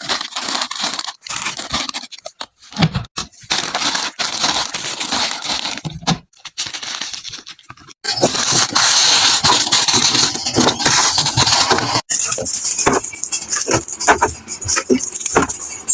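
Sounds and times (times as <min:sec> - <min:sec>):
plastic wrappers rustling and tearing: 0:00.0 - 0:15.5.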